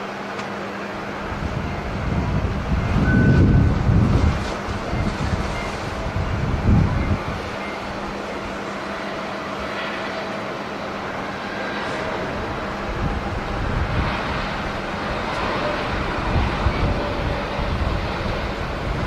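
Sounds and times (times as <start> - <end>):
jet engine roar: 0.0 - 19.0
wind buffeting microphone: 1.0 - 19.0.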